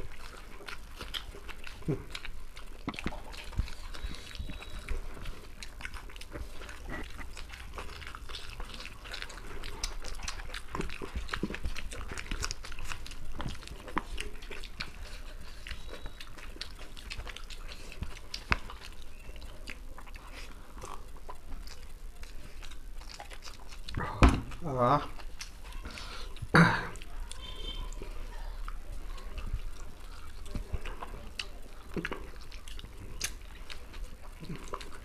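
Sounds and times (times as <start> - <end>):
chewing and lip-smacking: 0.0 - 35.0.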